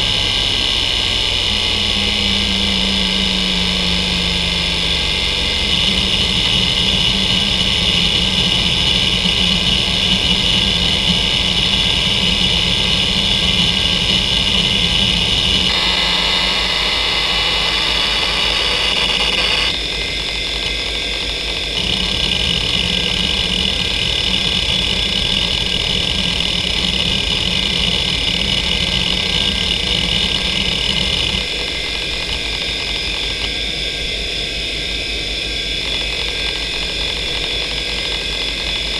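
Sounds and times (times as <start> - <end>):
hard drive head seeking chatter: 0.0 - 34.2, 35.2 - 38.9
hard drive spindle whine: 0.0 - 38.9.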